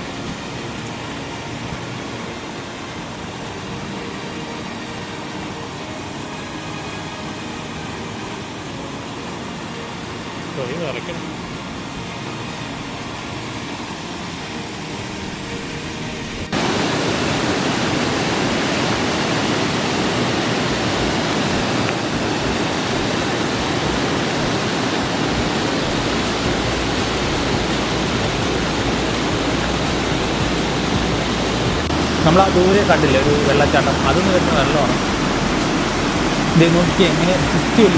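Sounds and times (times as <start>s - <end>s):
water rushing: 0.0s - 37.9s.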